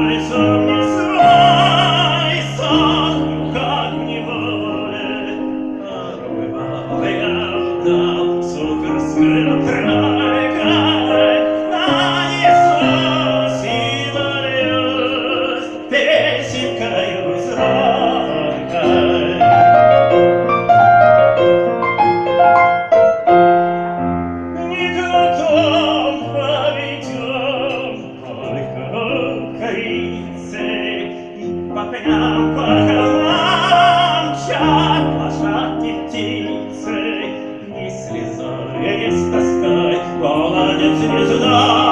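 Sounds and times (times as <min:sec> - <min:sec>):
operatic singing: 0:00.0 - 0:41.9
piano accompaniment: 0:00.0 - 0:41.9.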